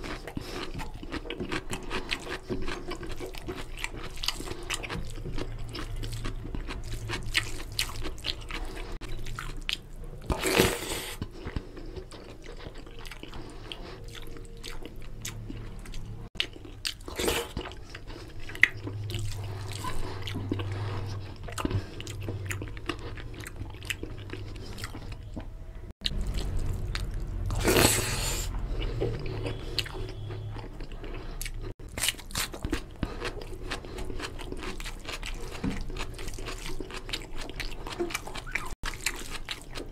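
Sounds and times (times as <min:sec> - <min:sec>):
close-up chewing: 0:00.0 - 0:39.9.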